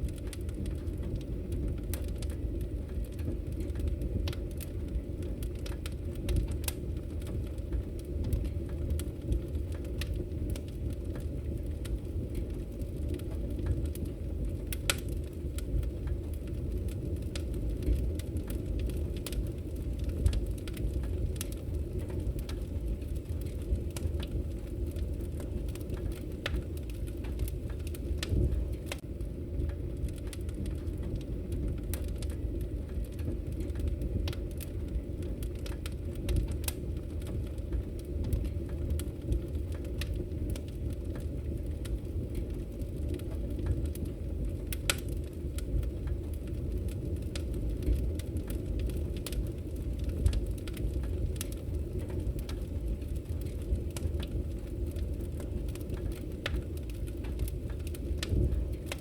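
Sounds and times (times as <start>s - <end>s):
logs crackling and popping: 0.0s - 59.0s
rumble of flames: 0.0s - 59.0s.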